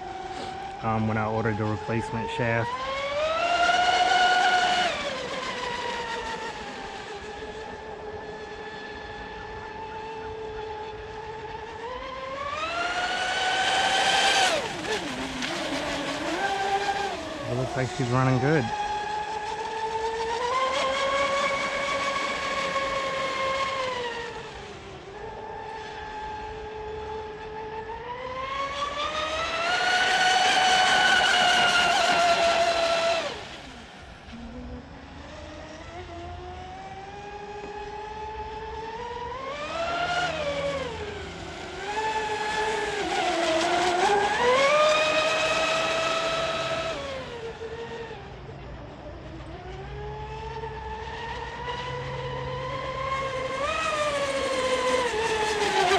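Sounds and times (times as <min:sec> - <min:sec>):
rc speedboat motor whine: 0:00.0 - 0:55.9.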